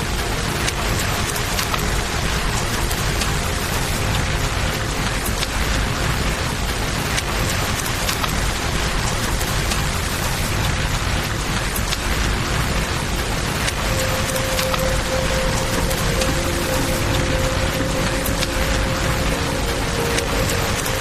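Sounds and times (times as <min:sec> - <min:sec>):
campfire crackling: 0:00.0 - 0:21.0
river flowing: 0:00.0 - 0:21.0
steady rain: 0:00.0 - 0:21.0.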